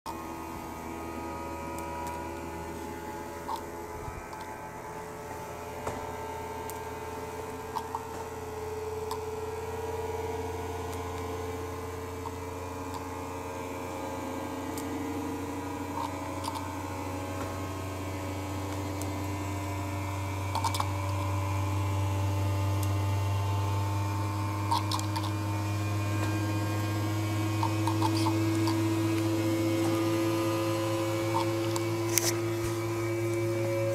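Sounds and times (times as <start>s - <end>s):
generator motor hum: 0.0s - 33.9s.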